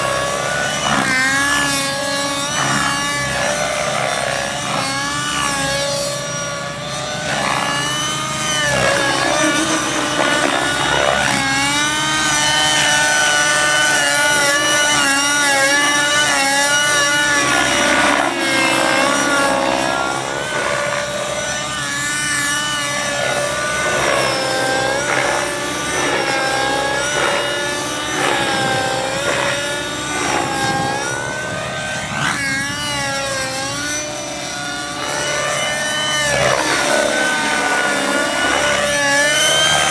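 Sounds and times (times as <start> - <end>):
rc helicopter engine whine: 0.0 - 39.9.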